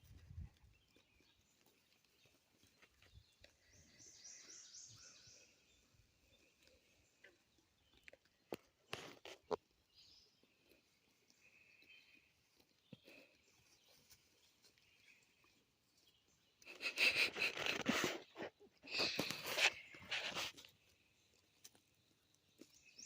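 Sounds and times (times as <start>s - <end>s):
bird chirping: 0.2s - 23.0s.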